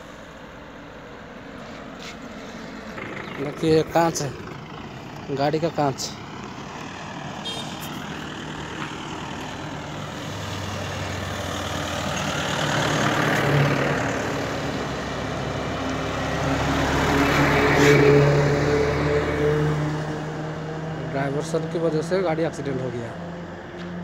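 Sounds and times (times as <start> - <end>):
bus engine passing close: 0.0 - 24.0
road traffic passing: 0.0 - 24.0.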